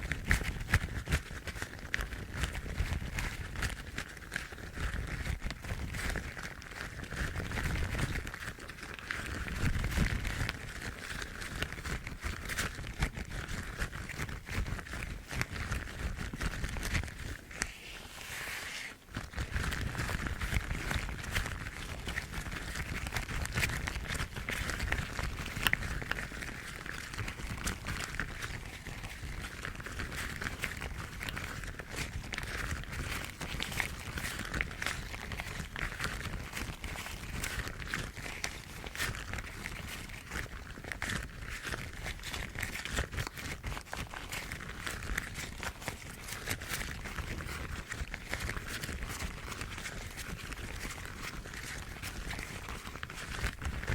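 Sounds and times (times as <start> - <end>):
rubber gloves crinkling: 0.0 - 53.9.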